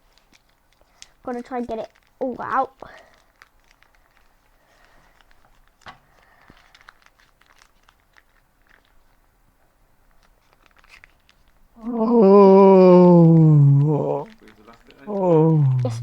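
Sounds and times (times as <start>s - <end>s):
slime packet crinkling and clicking: 0.0s - 11.8s, 14.2s - 16.0s.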